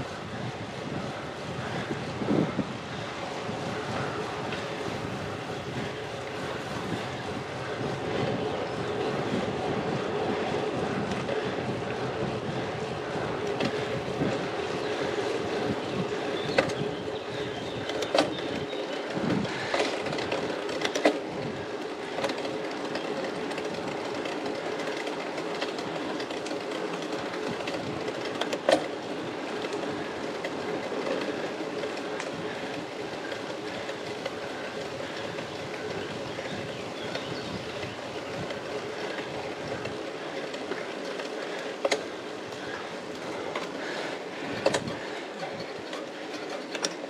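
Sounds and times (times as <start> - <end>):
bicycle chain whirring: 0.0 - 47.0
tyre noise on wet asphalt: 0.0 - 47.0.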